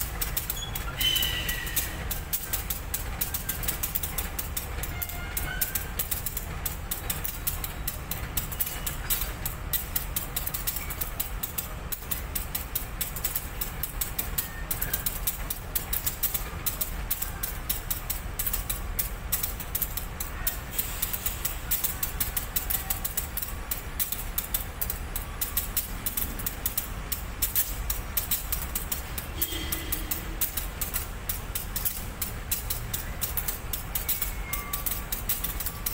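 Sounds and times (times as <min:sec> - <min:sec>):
train rumbling slowly: 0:00.0 - 0:35.9
patter of small clicks: 0:05.7 - 0:35.9.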